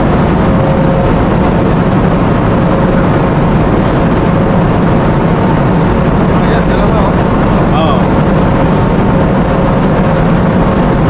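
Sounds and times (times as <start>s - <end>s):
ship machinery rumble: 0.0s - 11.0s.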